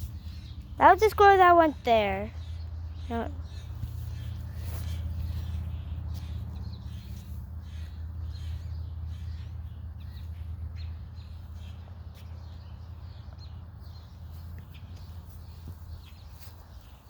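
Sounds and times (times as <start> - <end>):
steady low rumble: 0.0 - 16.4
birds chirping: 0.0 - 17.0.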